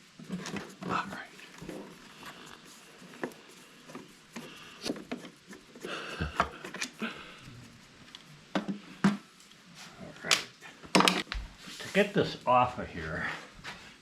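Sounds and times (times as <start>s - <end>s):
hands rubbing scooter parts: 0.0s - 12.4s.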